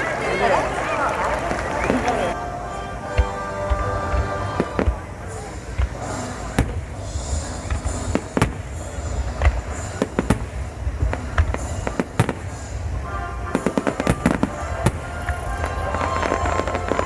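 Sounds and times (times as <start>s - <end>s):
fireworks bangs: 0.0s - 17.0s
rapid fireworks crackling: 0.0s - 17.0s.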